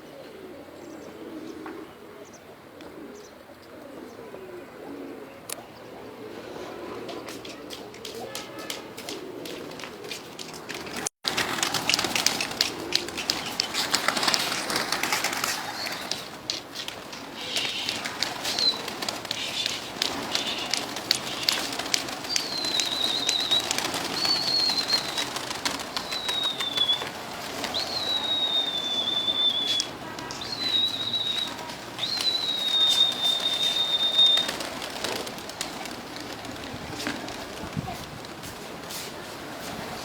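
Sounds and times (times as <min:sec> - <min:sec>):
pigeons cooing: 0:00.0 - 0:38.4.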